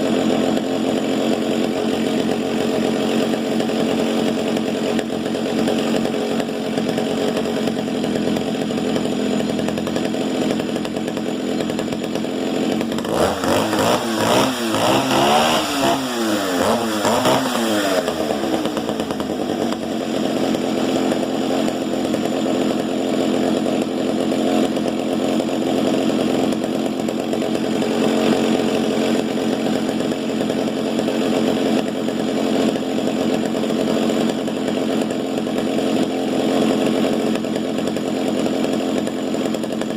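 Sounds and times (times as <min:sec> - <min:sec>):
chainsaw engine revving and idling: 0:00.0 - 0:39.9.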